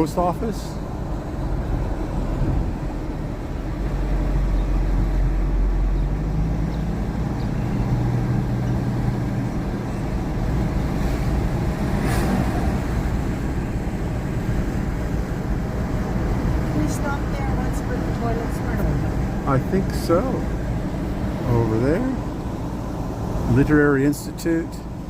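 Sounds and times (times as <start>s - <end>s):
car cabin engine and road rumble: 0.0s - 25.0s.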